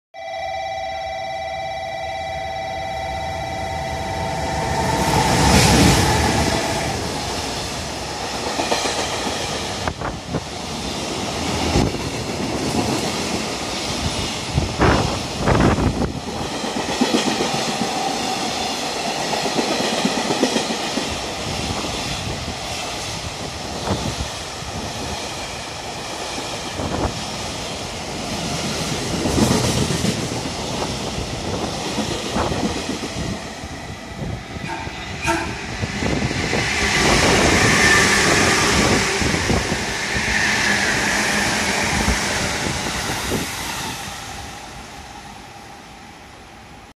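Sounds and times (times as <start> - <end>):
electric train approaching: 0.2 - 46.9.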